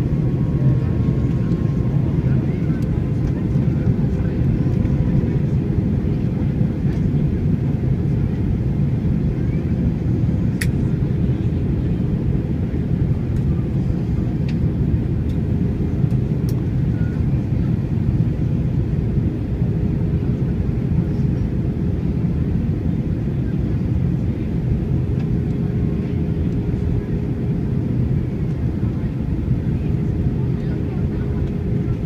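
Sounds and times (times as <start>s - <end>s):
airflow and engine rumble: 0.0s - 32.0s.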